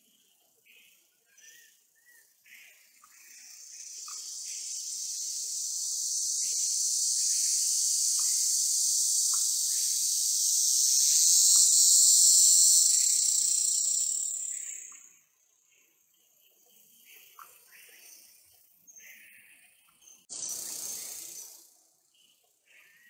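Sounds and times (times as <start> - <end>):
insects buzzing: 0.0 - 19.3, 20.0 - 23.0.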